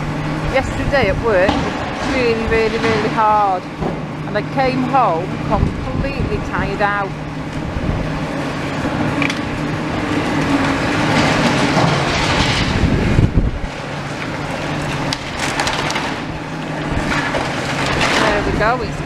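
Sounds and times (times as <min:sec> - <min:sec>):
lorry engine hum: 0:00.0 - 0:19.0
wind rumbling on microphone: 0:00.0 - 0:19.0.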